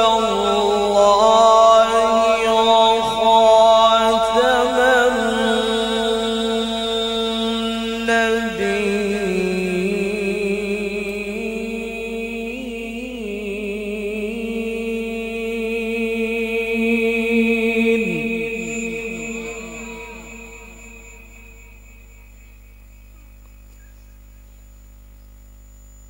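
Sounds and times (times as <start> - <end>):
man reciting melodically: 0.0 - 22.2.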